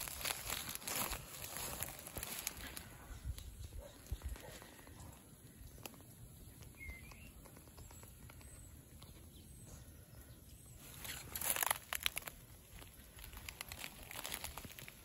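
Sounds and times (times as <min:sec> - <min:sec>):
dry plant material crackling: 0:00.0 - 0:09.2, 0:10.7 - 0:15.0
faint outdoor background: 0:00.0 - 0:15.0.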